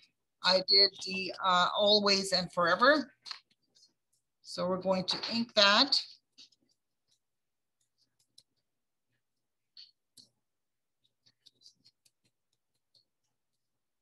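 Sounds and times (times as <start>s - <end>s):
faint clicks taps and scrapes: 0.0s - 1.7s, 3.0s - 14.0s.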